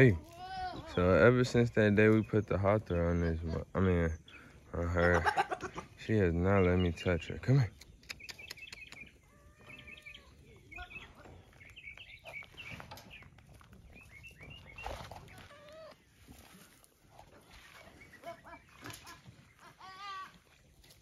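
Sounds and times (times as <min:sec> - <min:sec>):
farmyard animal calls: 0:00.0 - 0:21.0
small birds chirping: 0:00.0 - 0:21.0.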